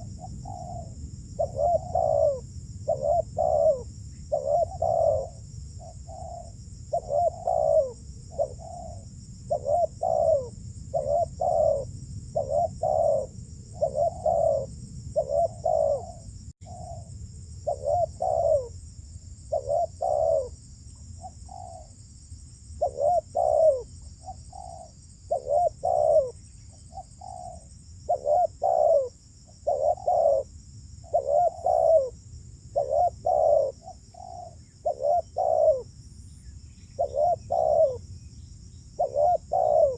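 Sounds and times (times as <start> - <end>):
doves cooing: 0.0 - 17.1, 17.7 - 18.8, 19.5 - 20.6, 21.2 - 22.0, 22.8 - 35.9, 37.0 - 38.0, 39.0 - 39.9.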